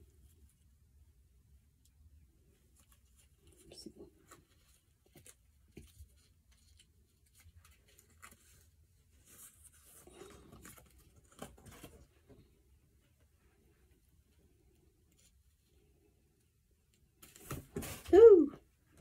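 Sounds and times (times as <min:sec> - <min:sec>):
faint rustling of wig: 0:02.0 - 0:19.0.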